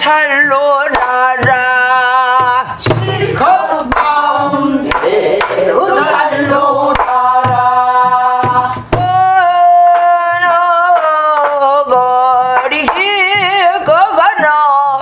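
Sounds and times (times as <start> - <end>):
woman singing folk song: 0.0 - 4.2, 6.9 - 15.0
stick striking barrel drum: 0.0 - 15.0.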